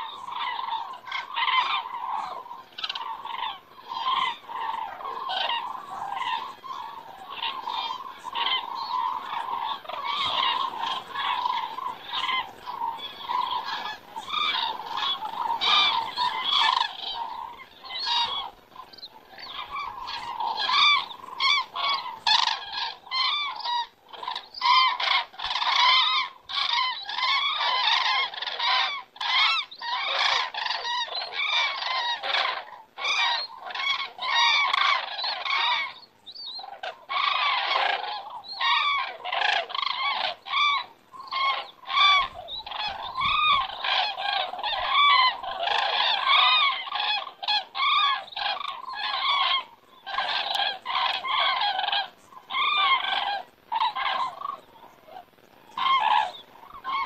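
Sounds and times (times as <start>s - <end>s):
cranes trumpeting in flight: 0.0s - 57.0s.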